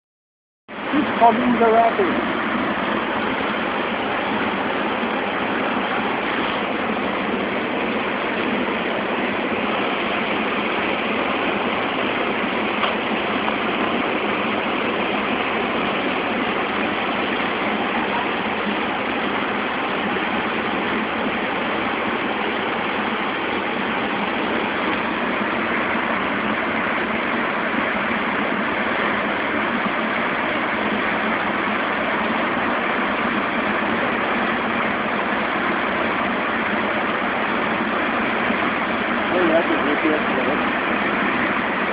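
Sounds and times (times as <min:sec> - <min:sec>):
whitewater rushing: 0:00.7 - 0:41.9.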